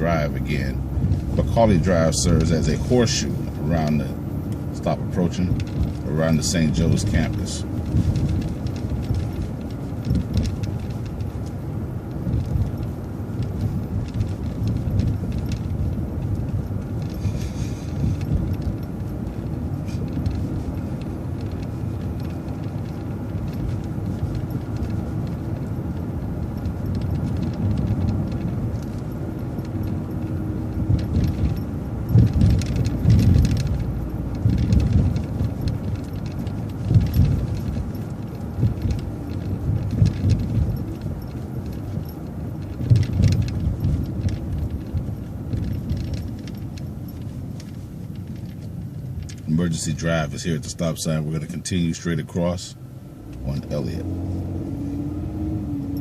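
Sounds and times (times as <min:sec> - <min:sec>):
bus bumps and jolts: 0:00.0 - 0:56.0
bus engine and road rumble: 0:00.0 - 0:56.0.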